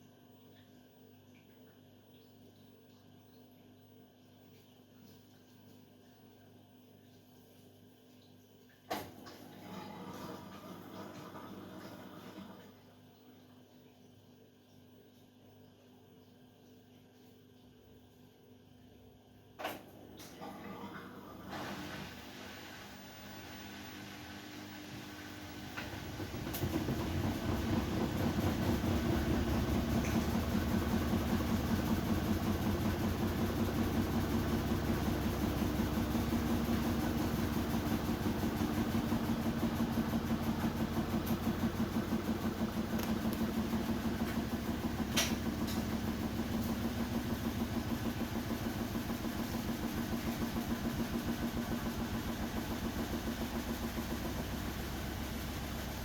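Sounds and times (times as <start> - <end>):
washing machine running: 1.8 - 56.0.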